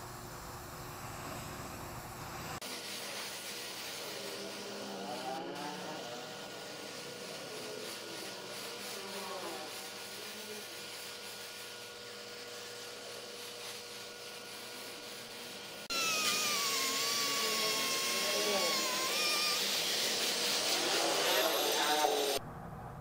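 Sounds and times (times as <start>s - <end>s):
spray gun air hiss: 0.0s - 22.4s
grinder whining on metal: 2.6s - 22.4s.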